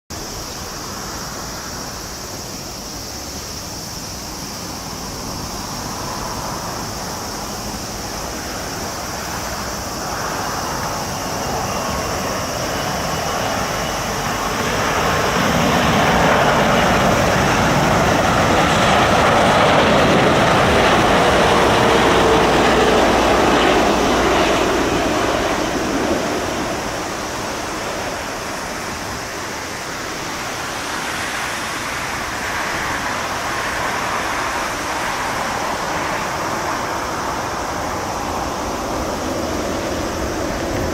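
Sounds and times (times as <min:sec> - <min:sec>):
jet airliner engine noise: 0:00.1 - 0:40.9.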